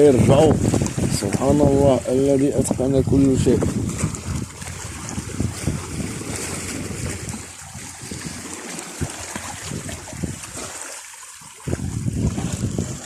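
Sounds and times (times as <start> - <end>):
seawater sloshing against boat: 0.0 - 13.0.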